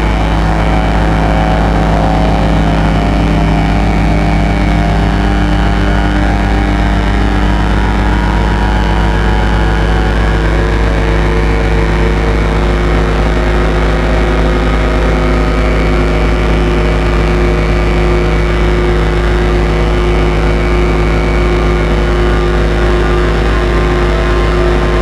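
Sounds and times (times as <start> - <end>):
dark drone with low rumble: 0.0 - 25.0.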